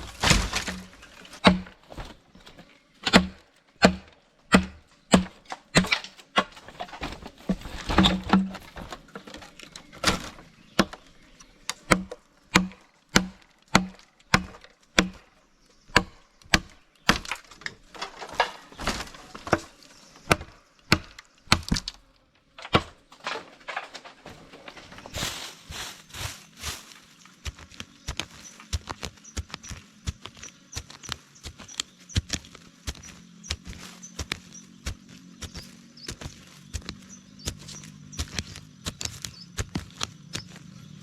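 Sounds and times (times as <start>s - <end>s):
wood being chopped: 0.0s - 15.3s, 15.9s - 22.0s, 22.6s - 25.2s, 27.4s - 40.6s.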